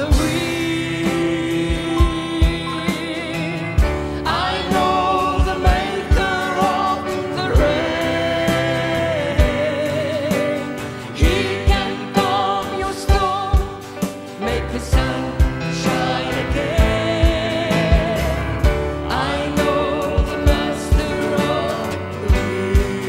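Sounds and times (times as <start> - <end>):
acoustic guitar: 0.0 - 23.0
keyboard: 0.0 - 23.0
people singing with vibrato: 0.0 - 23.0.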